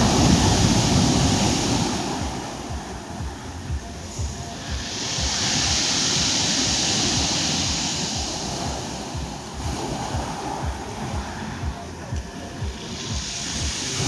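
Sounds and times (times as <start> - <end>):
wave breaking and washing ashore: 0.0 - 14.0
wind buffeting microphone: 0.0 - 14.0.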